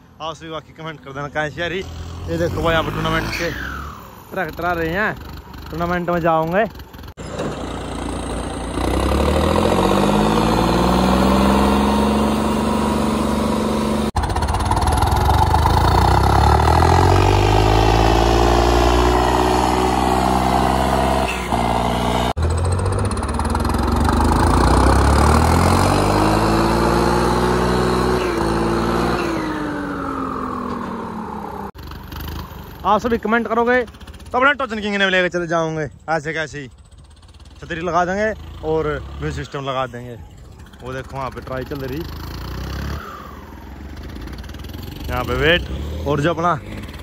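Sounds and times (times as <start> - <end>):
diesel tractor engines revving: 0.0 - 47.0.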